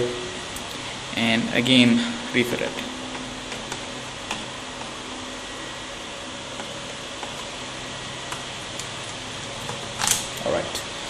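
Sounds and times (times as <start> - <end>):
steady room hiss: 0.0 - 11.0.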